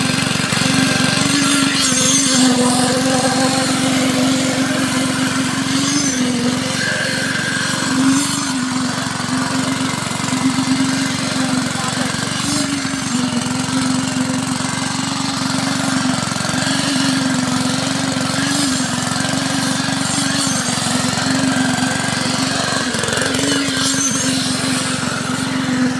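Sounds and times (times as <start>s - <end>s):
concrete vibrator engine running: 0.0s - 25.9s.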